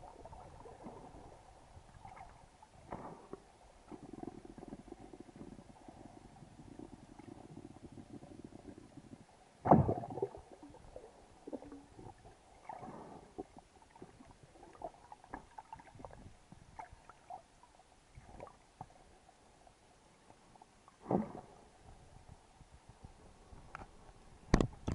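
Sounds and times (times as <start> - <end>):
low rough underwater rumble: 0.0 - 24.9
soft clicks and crackles: 0.0 - 24.9.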